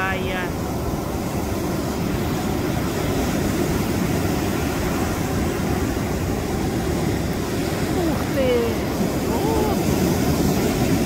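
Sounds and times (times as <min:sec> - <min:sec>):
deep rumble of surf: 0:00.0 - 0:11.0
wave breaking and washing in: 0:00.0 - 0:11.0.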